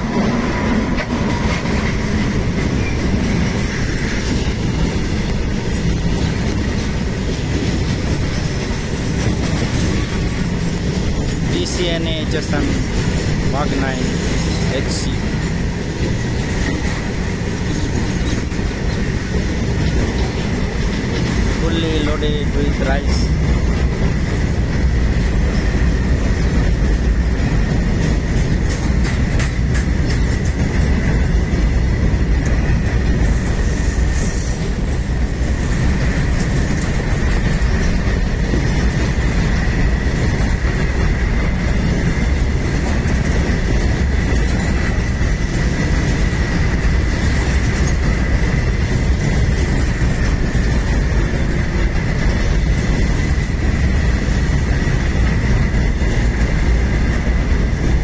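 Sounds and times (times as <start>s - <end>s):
train wheels rumbling on rail: 0.0s - 58.0s
wheels clicking over rail joints: 0.0s - 58.0s.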